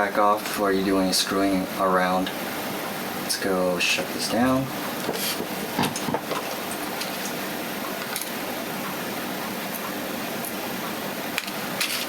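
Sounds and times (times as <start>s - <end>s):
fan-like background hiss: 0.0s - 12.0s.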